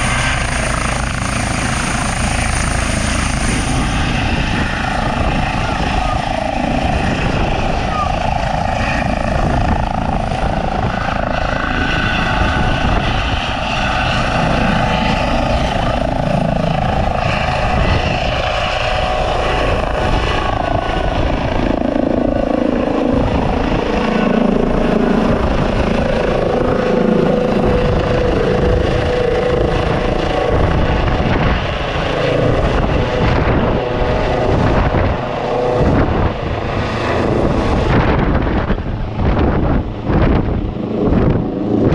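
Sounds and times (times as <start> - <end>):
helicopter rotor beating: 0.0 - 41.9
helicopter turbines whining: 0.0 - 41.9.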